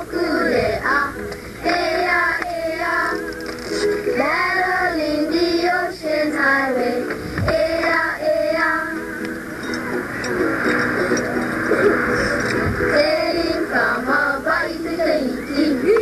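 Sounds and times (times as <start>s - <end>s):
instrumental backing: 0.0s - 15.0s
high singing voices: 0.0s - 16.0s.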